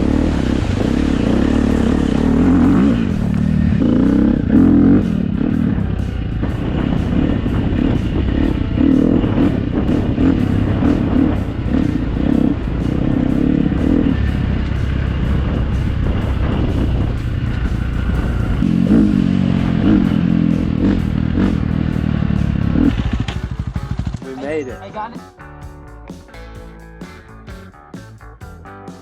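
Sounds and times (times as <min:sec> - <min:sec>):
dirt bike engine revving: 0:00.0 - 0:25.0
background music: 0:00.0 - 0:29.0.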